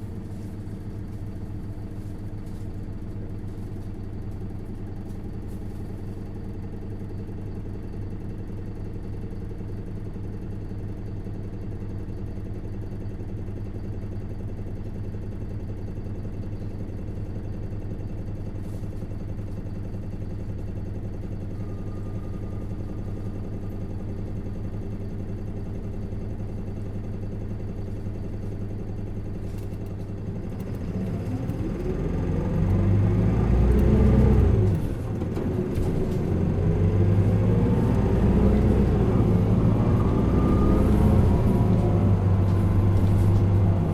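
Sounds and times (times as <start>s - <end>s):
diesel bus engine: 0.0s - 43.9s.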